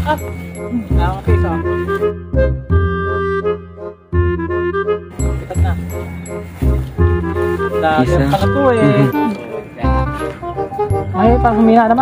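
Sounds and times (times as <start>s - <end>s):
melodic background music: 0.0s - 12.0s.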